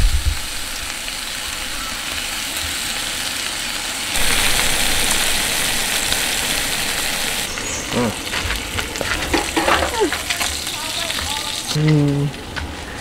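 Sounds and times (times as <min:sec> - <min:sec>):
bacon sizzling in frying pan: 0:00.0 - 0:12.5.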